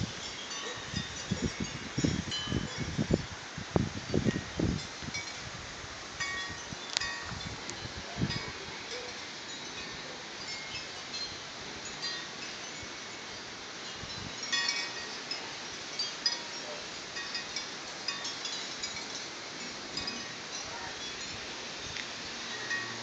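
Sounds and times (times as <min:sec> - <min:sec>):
wind chimes tinkling: 0:00.0 - 0:03.4, 0:04.0 - 0:05.5, 0:06.2 - 0:23.0.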